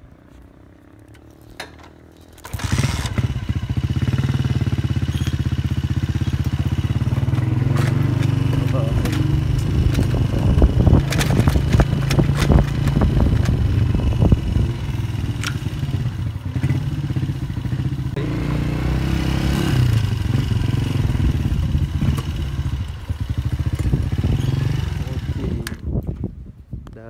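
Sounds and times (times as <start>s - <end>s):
motorcycle engine running: 0.2s - 26.0s.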